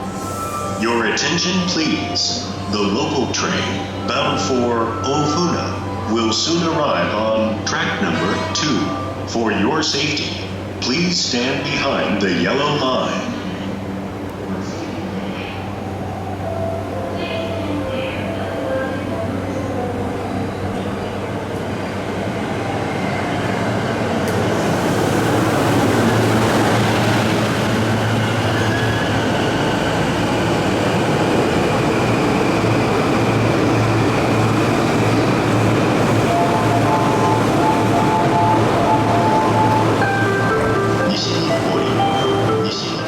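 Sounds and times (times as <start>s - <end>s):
electric train rolling noise: 0.0s - 43.0s.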